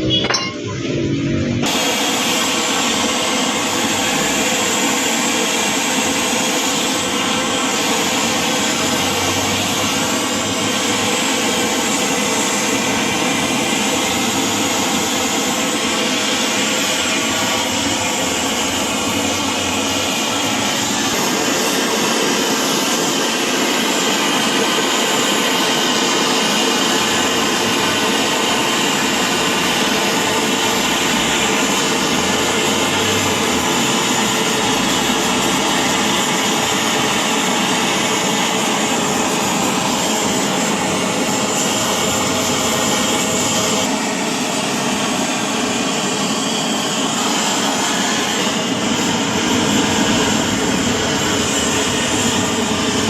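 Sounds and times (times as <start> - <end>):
steady rush of machine noise: 0.0 - 53.0.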